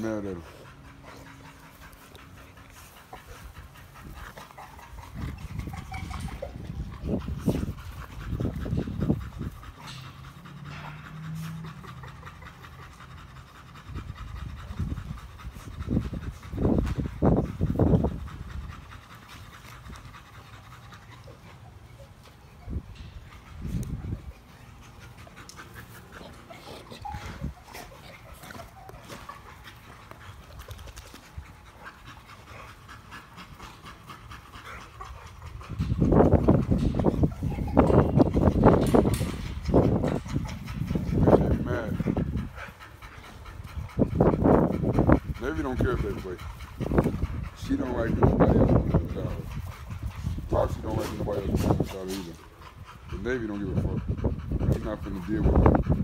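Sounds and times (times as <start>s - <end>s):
dogs panting hard: 0.0s - 56.0s.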